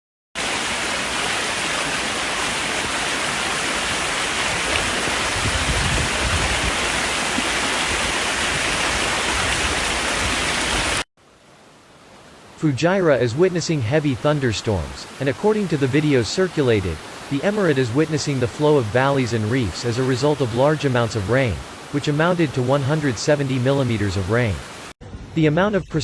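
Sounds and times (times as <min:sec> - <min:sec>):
floodwater rushing: 0:00.4 - 0:11.0, 0:12.3 - 0:24.9.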